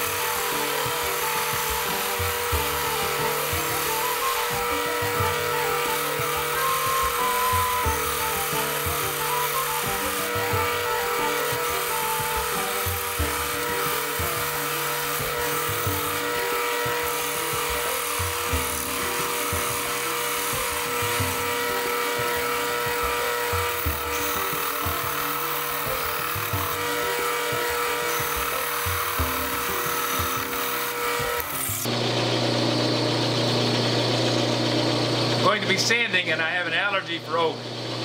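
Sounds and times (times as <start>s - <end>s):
chisel scraping spinning wood: 0.0s - 32.0s
lathe motor hum: 0.0s - 38.0s.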